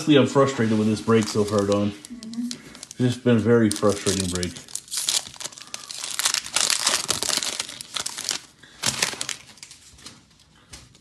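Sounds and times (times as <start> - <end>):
faint handling of cards: 0.4 - 11.0
foil wrapper crinkling and tearing: 0.8 - 10.2.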